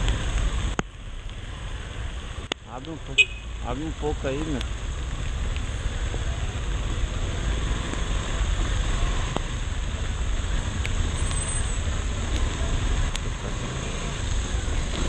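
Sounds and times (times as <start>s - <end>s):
motorcycle engine rumble: 0.0s - 15.0s
rain hissing on wet road: 0.0s - 15.0s.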